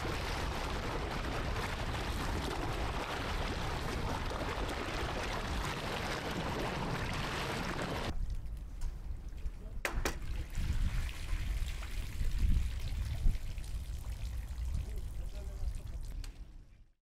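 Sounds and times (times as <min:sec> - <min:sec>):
water sloshing and trickling: 0:00.0 - 0:16.5.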